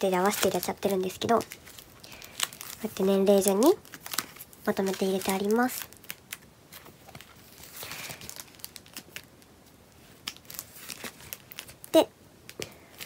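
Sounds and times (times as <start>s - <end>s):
plastic binder pockets crinkling: 0.0s - 13.0s
soft page rustle: 0.0s - 13.0s.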